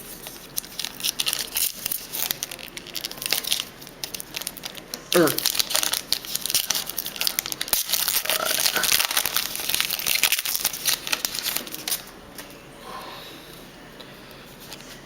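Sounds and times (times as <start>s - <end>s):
plastic wrapper crinkling: 0.2s - 12.6s.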